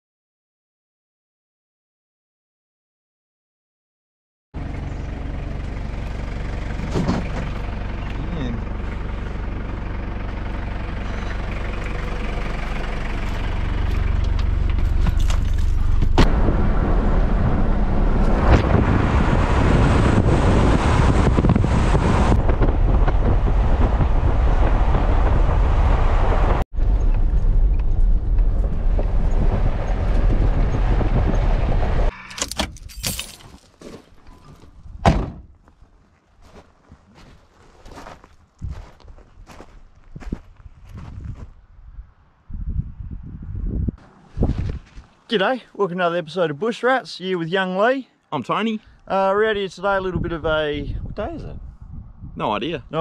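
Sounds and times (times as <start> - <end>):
vehicle engine and tyre noise: 4.6 - 47.2.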